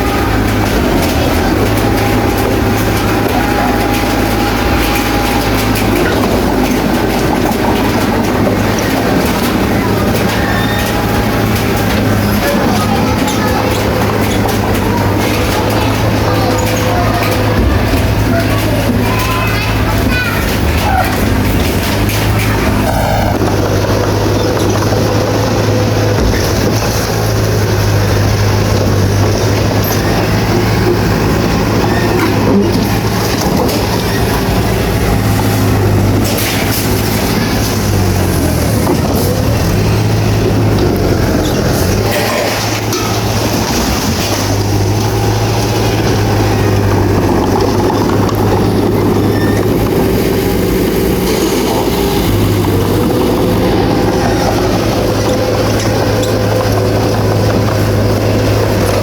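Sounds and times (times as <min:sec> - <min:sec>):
diesel engine droning: 0:00.0 - 0:59.0
steel tracks clattering: 0:00.0 - 0:59.0.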